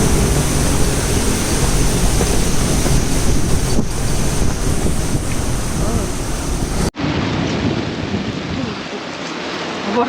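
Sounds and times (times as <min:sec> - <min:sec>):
strong wind on microphone: 0:00.0 - 0:09.0.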